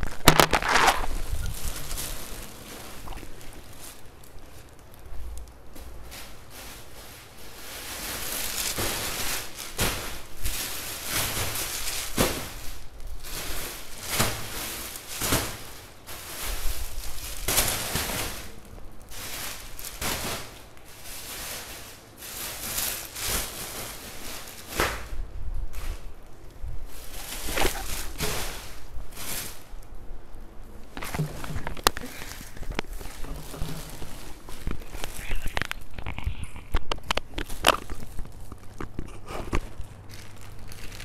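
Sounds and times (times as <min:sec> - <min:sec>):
plastic bags crinkling: 0:00.0 - 0:41.0.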